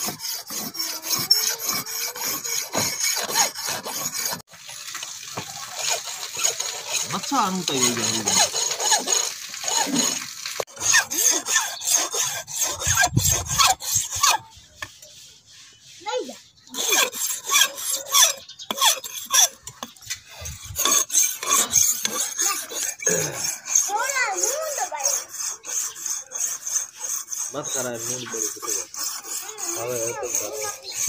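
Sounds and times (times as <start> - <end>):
metal file scraping wire: 0.0 - 4.5, 5.6 - 31.0.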